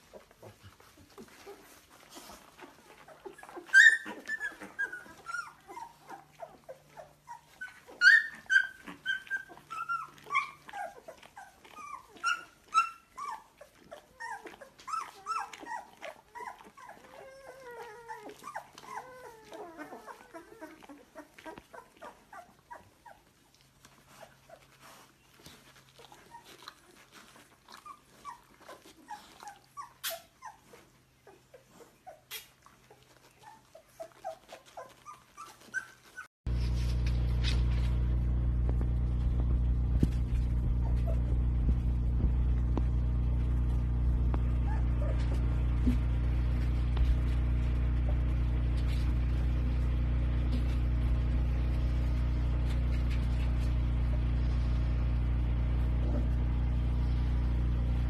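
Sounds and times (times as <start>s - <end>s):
puppies whimpering and squealing: 0.0s - 38.1s, 39.3s - 57.0s.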